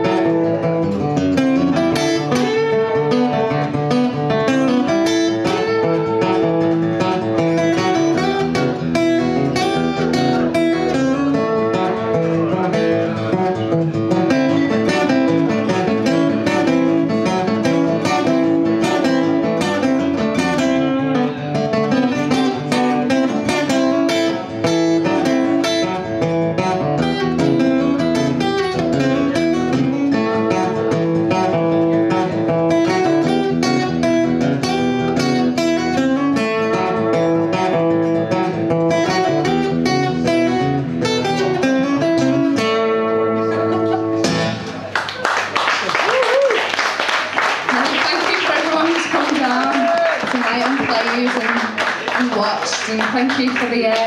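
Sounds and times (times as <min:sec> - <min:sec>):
acoustic guitars strumming: 0:00.0 - 0:45.6, 0:46.7 - 0:54.0.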